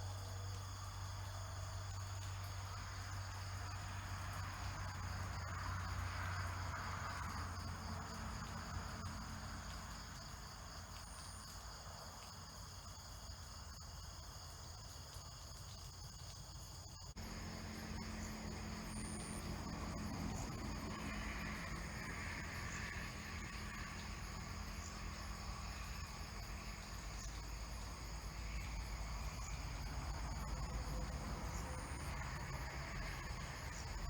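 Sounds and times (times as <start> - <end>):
insects trilling: 0.1 - 34.0.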